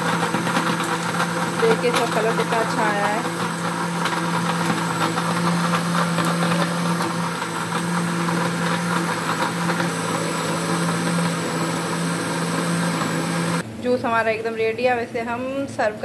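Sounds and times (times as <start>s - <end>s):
mixer grinder motor whining: 0.0s - 13.8s.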